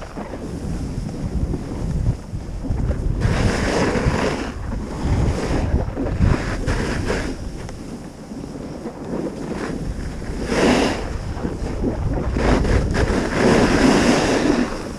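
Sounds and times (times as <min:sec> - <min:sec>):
skis scraping over snow: 0:00.0 - 0:14.9
wind buffeting microphone: 0:00.0 - 0:14.9.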